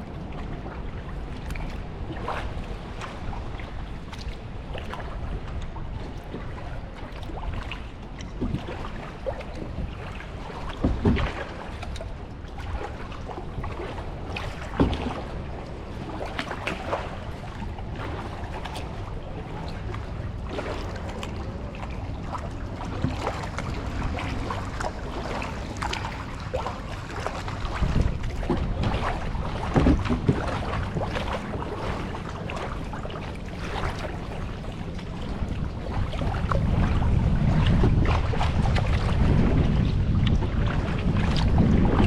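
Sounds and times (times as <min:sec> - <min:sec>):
wind buffeting microphone: 0:00.0 - 0:42.0
kayak paddle strokes: 0:00.3 - 0:42.0
water splashing and dripping: 0:00.5 - 0:42.0.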